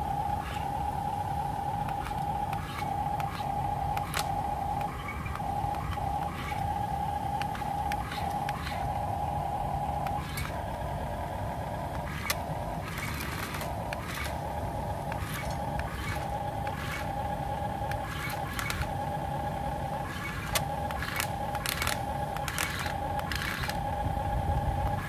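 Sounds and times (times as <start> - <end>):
electric gear motors whining: 0.0 - 25.0
sharp clicks: 1.4 - 10.9, 11.9 - 19.0, 20.0 - 23.9.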